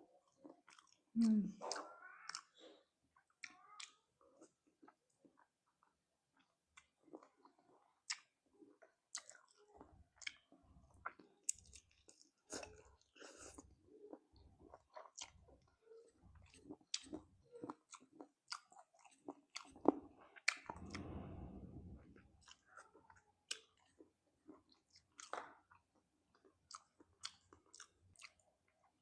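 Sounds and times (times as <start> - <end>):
chewing and crunching: 0.2 - 20.9, 22.4 - 29.0.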